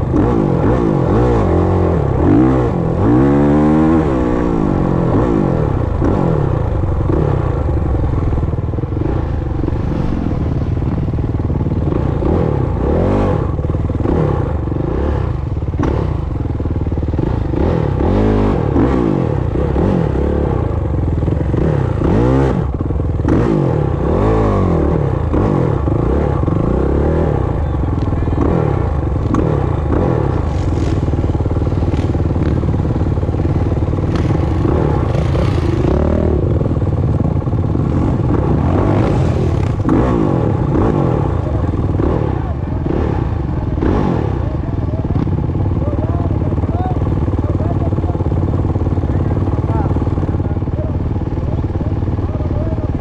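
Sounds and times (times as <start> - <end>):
dirt bike engine revving: 0.0 - 53.0
bike rattling: 2.0 - 20.0, 25.4 - 53.0.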